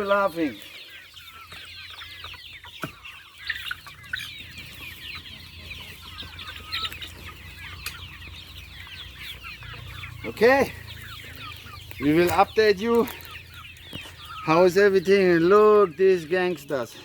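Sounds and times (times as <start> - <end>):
chickens clucking and chirping: 0.0 - 17.0.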